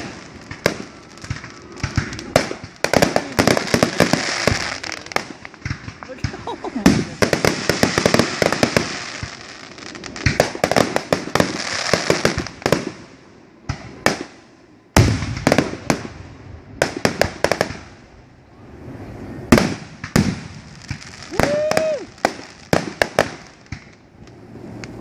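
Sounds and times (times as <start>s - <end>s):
fireworks bangs and cracks: 0.0s - 14.4s, 15.0s - 18.0s, 19.5s - 25.0s.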